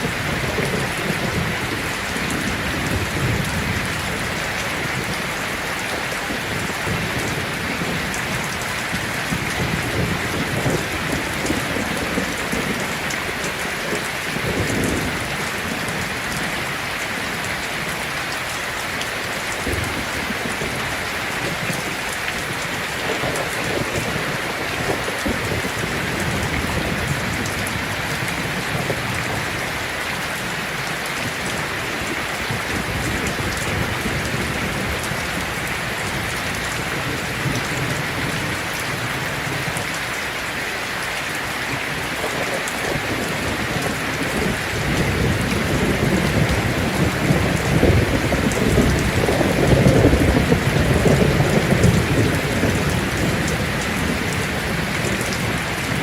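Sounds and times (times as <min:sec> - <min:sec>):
thunder rumbles: 0:00.0 - 0:18.4, 0:19.2 - 0:40.0, 0:41.7 - 0:56.0
heavy rain on a tin roof: 0:00.0 - 0:56.0.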